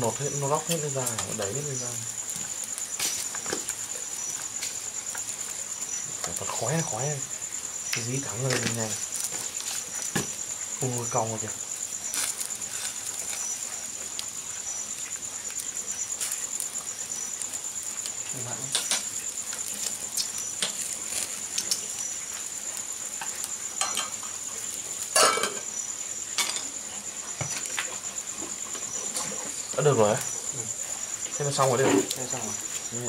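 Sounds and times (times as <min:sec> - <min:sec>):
crickets chirring: 0:00.0 - 0:33.0
wood fire crackling: 0:00.0 - 0:33.0.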